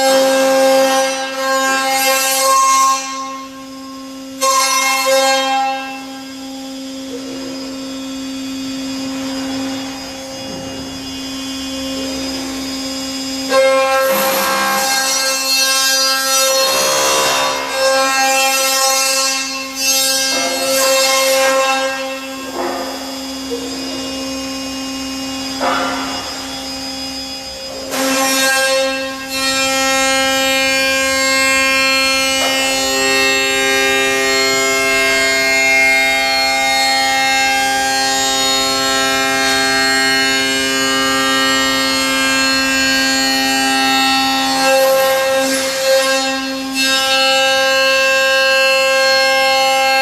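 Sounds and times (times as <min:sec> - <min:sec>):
cnc machine milling metal: 0:00.0 - 0:50.0.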